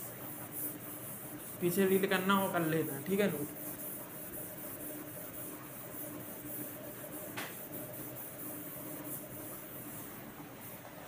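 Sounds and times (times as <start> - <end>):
duster wiping a whiteboard: 0.0 - 10.9.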